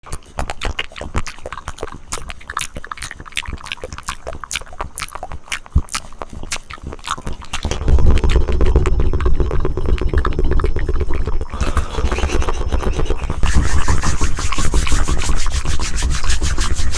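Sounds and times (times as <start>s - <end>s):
tongue and lip clicks: 0.0s - 16.9s
tongue fluttering rumble: 0.1s - 16.9s.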